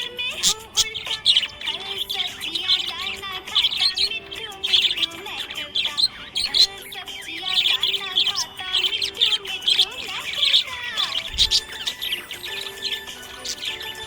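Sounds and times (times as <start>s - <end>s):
budgerigars chirping and warbling: 0.0s - 14.0s.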